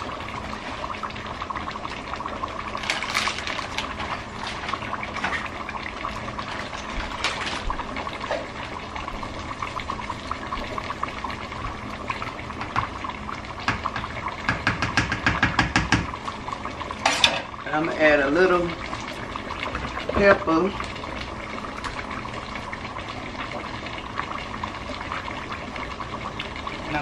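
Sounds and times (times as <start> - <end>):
water boiling and bubbling: 0.0 - 27.0.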